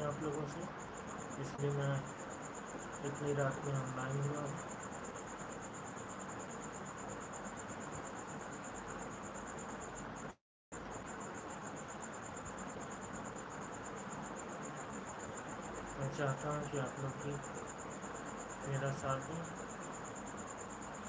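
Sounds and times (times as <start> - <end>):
cricket chirping trill: 0.0 - 21.0
low hiss: 0.0 - 21.0.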